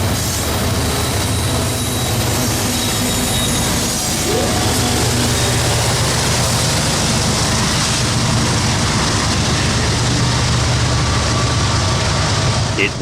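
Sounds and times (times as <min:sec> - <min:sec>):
train wheels rumbling on rail: 0:00.0 - 0:12.7.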